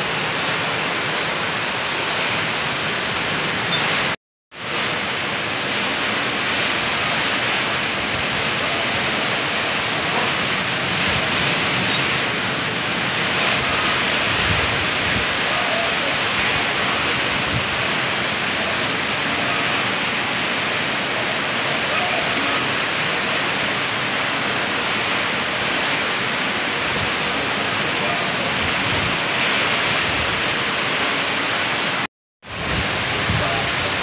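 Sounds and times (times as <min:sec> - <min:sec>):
wind and heavy rain: 0:00.0 - 0:34.0.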